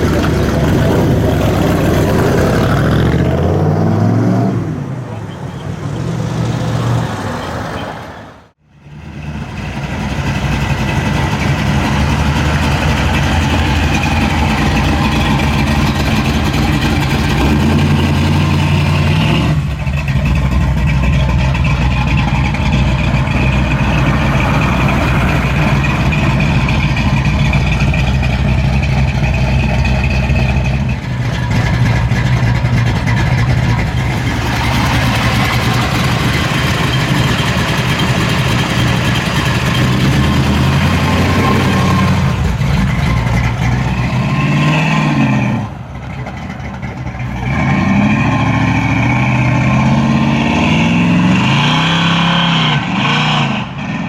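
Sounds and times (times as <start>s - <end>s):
car engine idling: 0.0s - 3.6s, 4.5s - 49.8s.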